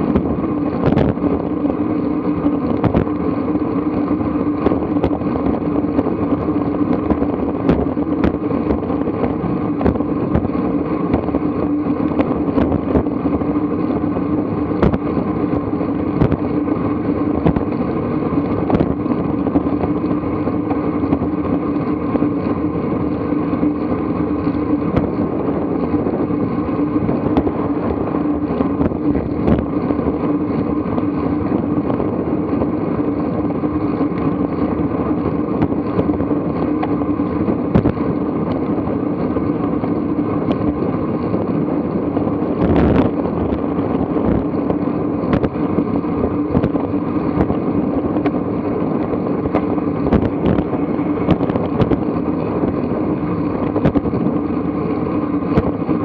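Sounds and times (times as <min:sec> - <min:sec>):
bicycle tyres rolling on asphalt: 0:00.0 - 0:56.0
wind on microphone: 0:00.0 - 0:56.0.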